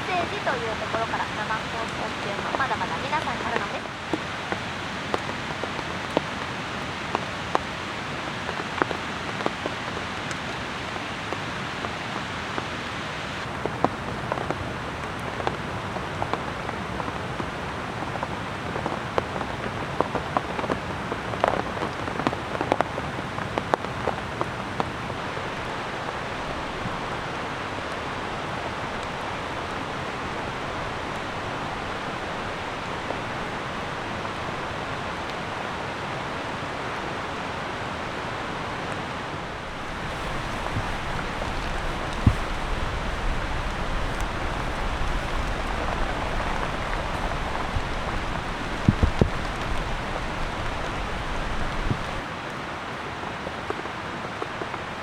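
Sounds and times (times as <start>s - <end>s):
raindrops striking close by: 0.0s - 55.0s
steady rain: 0.0s - 55.0s.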